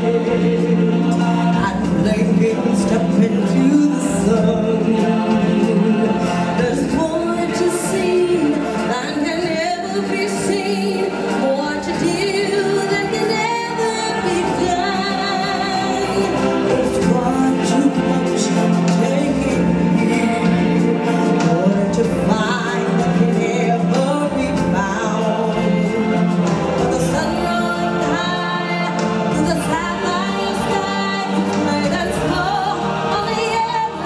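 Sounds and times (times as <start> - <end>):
group singing stage-musical song: 0.0 - 34.0.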